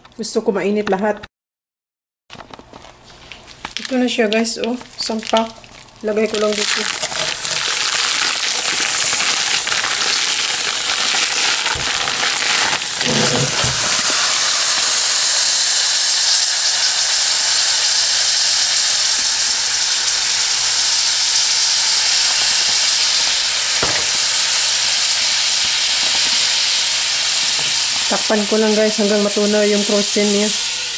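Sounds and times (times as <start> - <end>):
food sizzling in a frying pan: 3.7 - 30.9.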